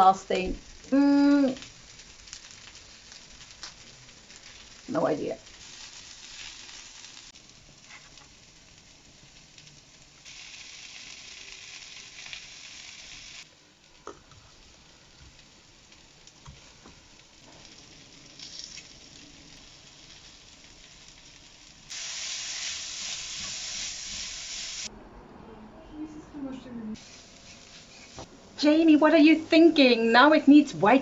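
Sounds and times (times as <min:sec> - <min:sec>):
vegetables sizzling in oil: 0:00.0 - 0:24.9, 0:27.0 - 0:31.0.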